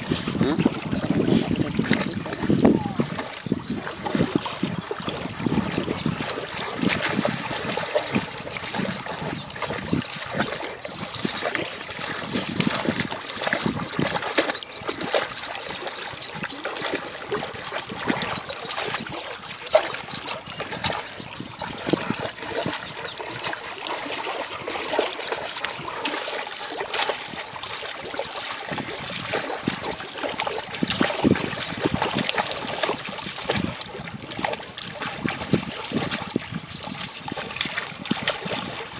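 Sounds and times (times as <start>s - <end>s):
dog splashing in shallow water: 0.0s - 38.9s.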